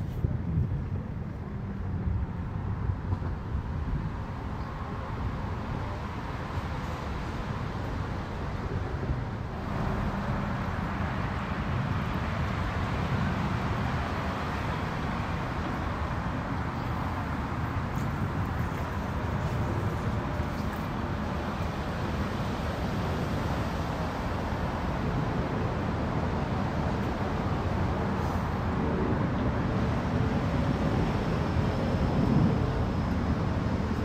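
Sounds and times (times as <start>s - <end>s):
boat motors rumbling: 0.3s - 34.0s
water wash: 0.6s - 34.0s.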